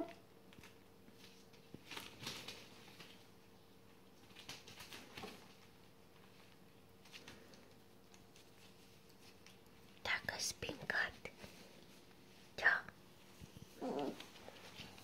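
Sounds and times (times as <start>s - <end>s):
puppies rustling on newspaper: 0.5s - 12.6s, 13.2s - 15.0s.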